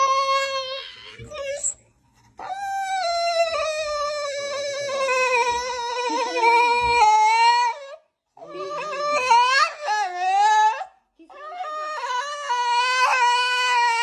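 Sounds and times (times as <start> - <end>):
dog howling: 2.4 - 14.0.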